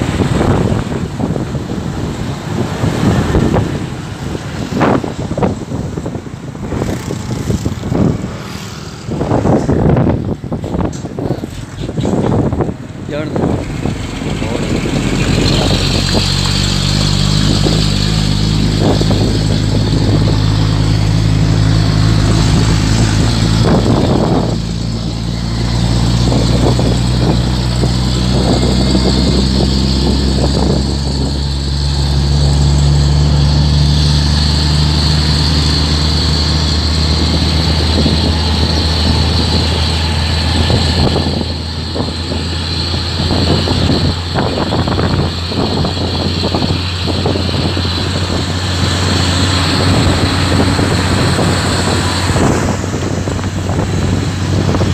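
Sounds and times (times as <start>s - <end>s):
truck engine drone: 0.0s - 54.9s
wind and road noise: 0.0s - 54.9s.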